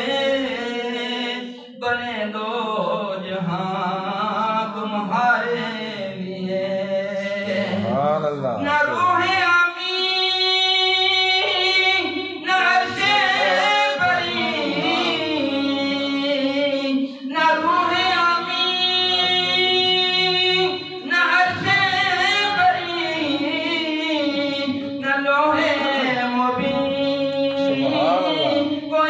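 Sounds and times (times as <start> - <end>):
man singing unaccompanied: 0.0 - 29.0.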